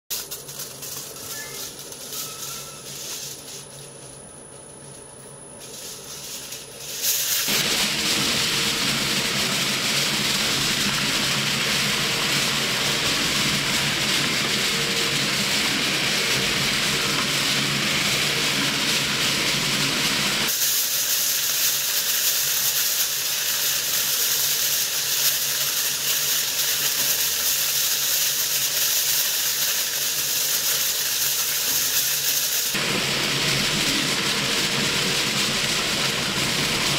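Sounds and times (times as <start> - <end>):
shredder crushing foil: 0.1 - 4.2, 5.6 - 36.9.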